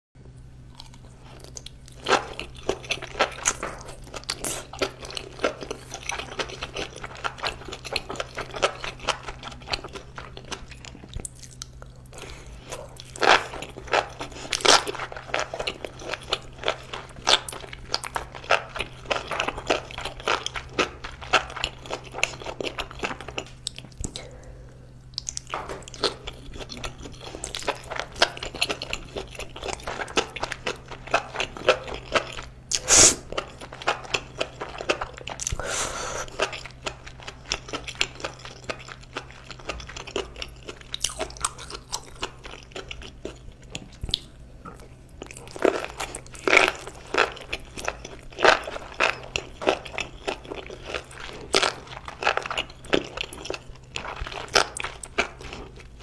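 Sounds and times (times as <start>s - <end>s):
steady low hum: 0.2s - 56.0s
crunchy wet chewing: 0.7s - 24.4s, 25.0s - 56.0s.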